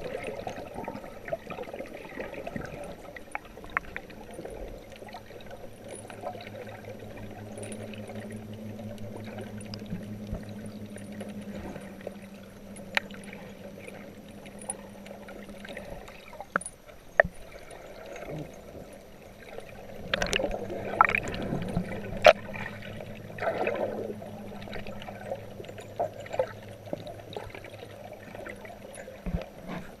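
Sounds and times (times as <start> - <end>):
muffled underwater sloshing: 0.0 - 30.0
sharp underwater clicks and crackles: 0.0 - 30.0
steady low hum: 0.0 - 30.0
water splashing: 0.0 - 30.0.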